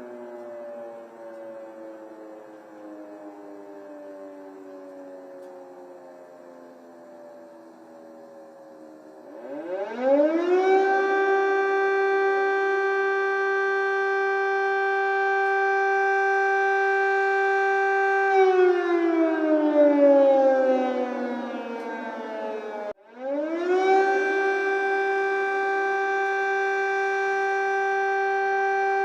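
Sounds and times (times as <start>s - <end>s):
air raid siren wailing: 0.0s - 29.0s.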